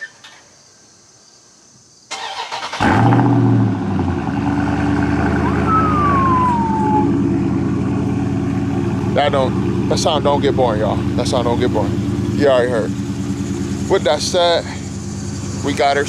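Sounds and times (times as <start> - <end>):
car engine idling: 2.2 - 16.0.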